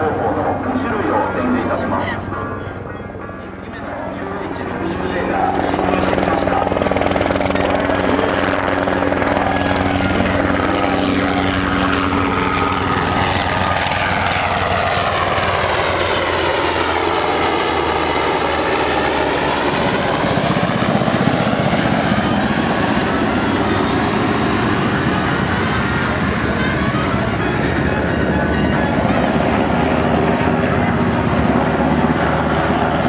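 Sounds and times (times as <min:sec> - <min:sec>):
helicopter flying past: 0:00.0 - 0:33.0.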